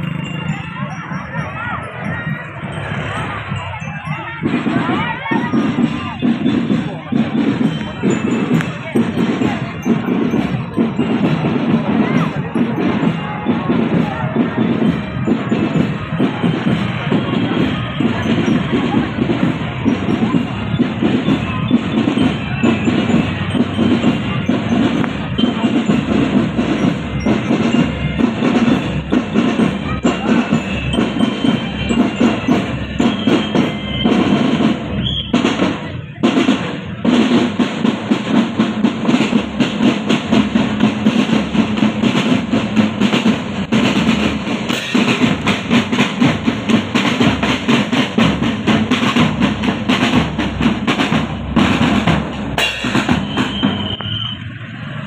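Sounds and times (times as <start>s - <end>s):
marching drum band: 0.0s - 55.0s.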